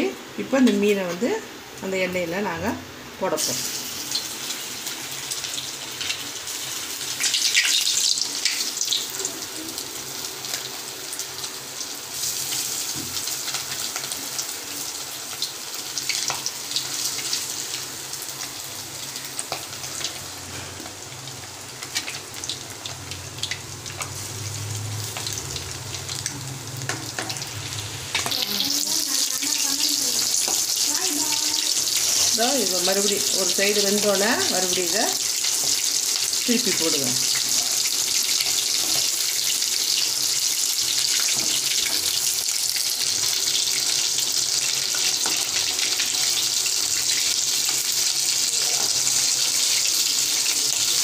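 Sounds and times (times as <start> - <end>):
fish sizzling in hot oil: 3.2 - 51.0.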